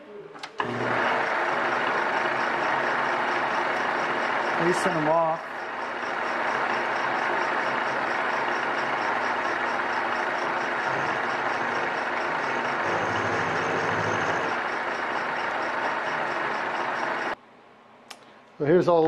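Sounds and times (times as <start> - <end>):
milling machine cutting metal: 0.6 - 17.4
faint rapid ticking: 1.9 - 17.4.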